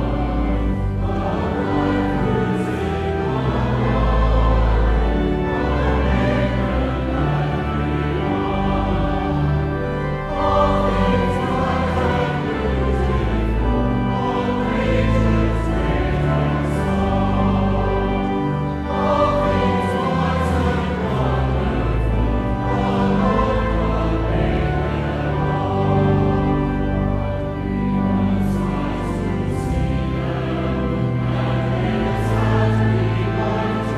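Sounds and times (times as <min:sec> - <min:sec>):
choir singing held chords: 0:00.0 - 0:33.9
instrumental accompaniment: 0:00.0 - 0:33.9.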